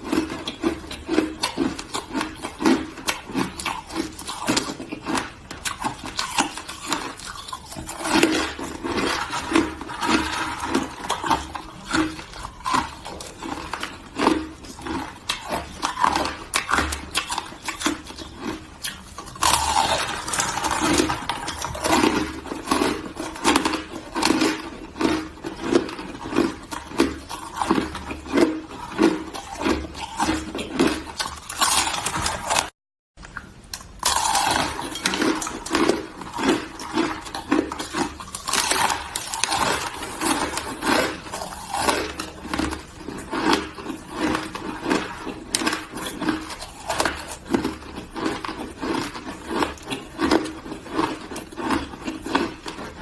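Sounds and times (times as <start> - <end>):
ice being crunched and chewed: 0.0 - 32.7, 33.3 - 53.0.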